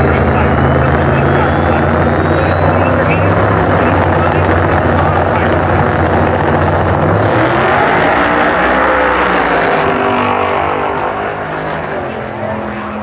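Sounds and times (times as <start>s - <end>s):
race cars accelerating: 0.0s - 13.0s.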